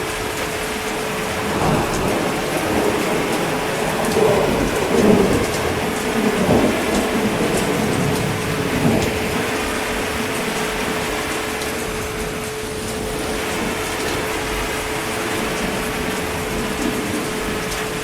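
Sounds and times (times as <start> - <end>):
heavy rain: 0.0 - 18.0
rolling thunder: 0.0 - 18.0.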